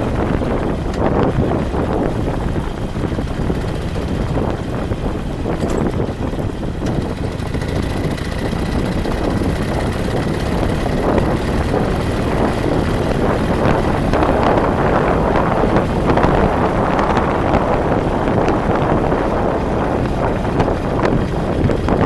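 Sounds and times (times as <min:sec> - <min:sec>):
vehicle engine and road noise: 0:00.0 - 0:22.0
wind on microphone: 0:00.0 - 0:22.0.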